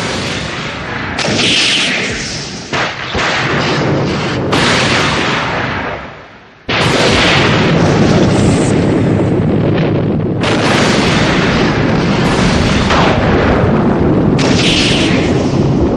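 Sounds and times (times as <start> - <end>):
thunder cracking and rumbling: 0.0 - 15.9.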